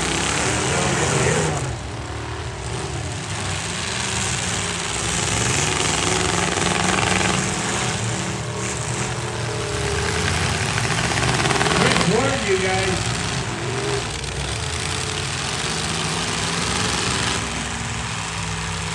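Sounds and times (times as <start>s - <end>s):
truck engines revving: 0.0s - 18.9s.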